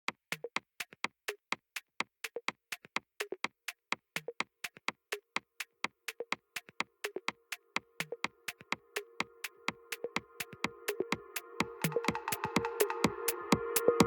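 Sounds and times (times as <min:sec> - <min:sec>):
clicky electronic percussion beat: 0:00.1 - 0:14.0.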